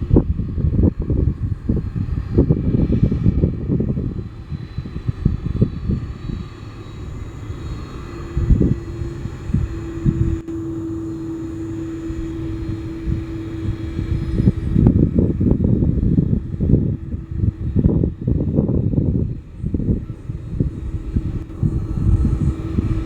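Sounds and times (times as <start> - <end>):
jet engines running: 0.0 - 23.0
steady hum: 0.0 - 23.0
wind rumble on microphone: 0.0 - 23.0.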